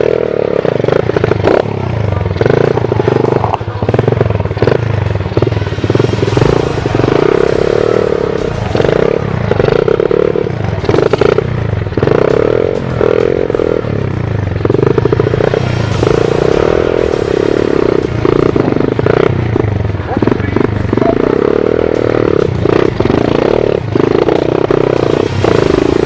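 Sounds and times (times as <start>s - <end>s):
pit bike engine revving: 0.0s - 26.0s.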